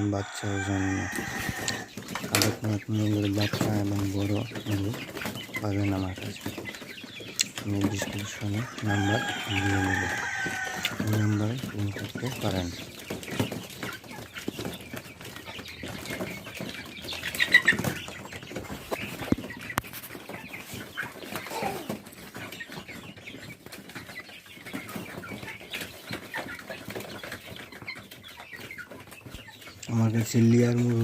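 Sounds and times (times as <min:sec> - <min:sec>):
chickens clucking and calling: 0:00.0 - 0:31.0.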